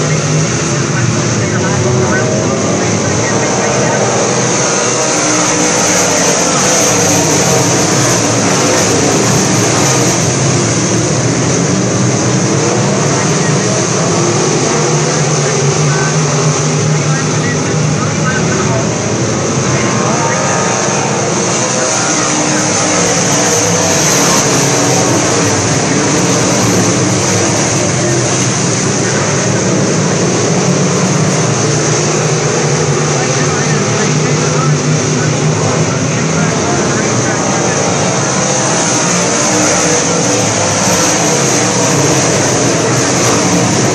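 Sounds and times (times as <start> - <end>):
race car engines: 0.0 - 43.9.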